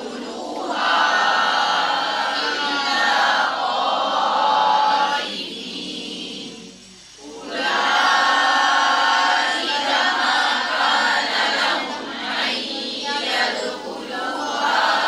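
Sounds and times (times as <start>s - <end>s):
students chanting in unison: 0.0s - 15.0s.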